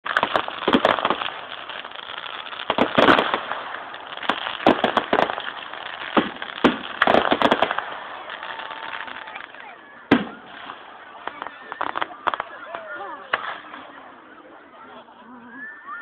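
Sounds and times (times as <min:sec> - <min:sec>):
firework crackling: 0:00.0 - 0:14.5
firework bangs: 0:00.1 - 0:14.1.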